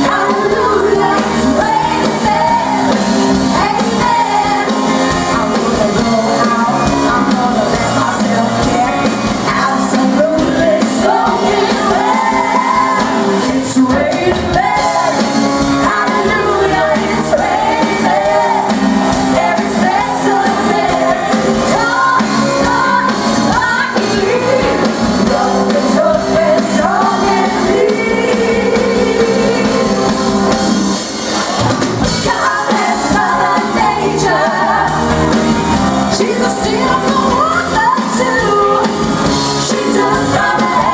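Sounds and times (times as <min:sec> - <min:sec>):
lead singing: 0:00.0 - 0:40.9
live band playing pop-rock: 0:00.0 - 0:40.9.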